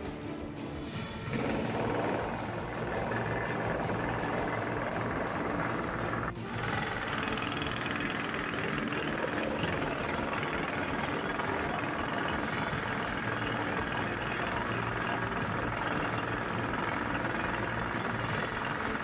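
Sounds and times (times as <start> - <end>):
bulldozer engine running: 0.0 - 19.0.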